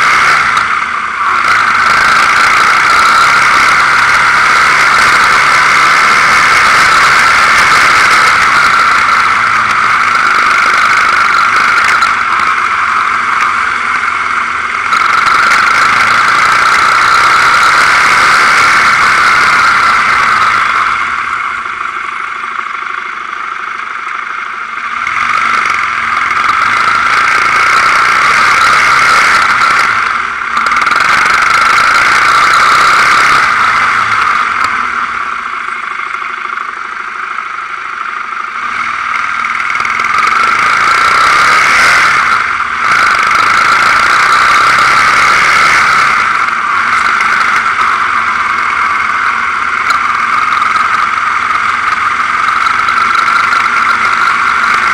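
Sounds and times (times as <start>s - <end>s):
high steady whine: 0.0s - 54.9s
quad bike engine running: 0.0s - 54.9s.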